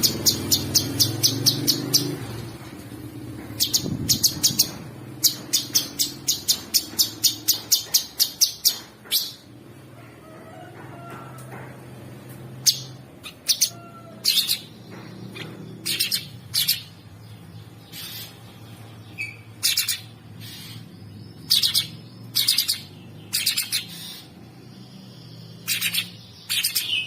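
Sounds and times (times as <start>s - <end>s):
bird singing harsh song: 0.0s - 9.5s, 12.6s - 27.0s.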